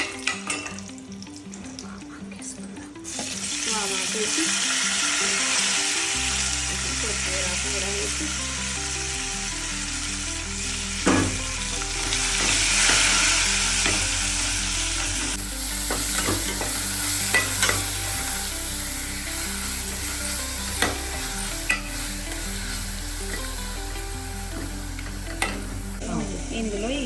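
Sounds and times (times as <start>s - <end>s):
leaves sizzling in hot oil: 3.0s - 27.0s.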